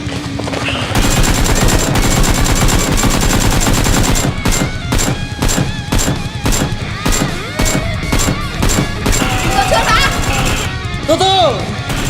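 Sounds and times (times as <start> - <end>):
rapid automatic gunfire: 0.0 - 12.0.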